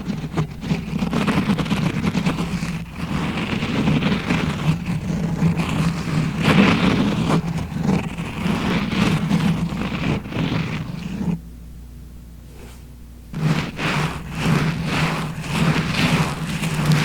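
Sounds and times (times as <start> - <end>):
rubbing and scratching on microphone: 0.0 - 11.4, 12.4 - 17.0.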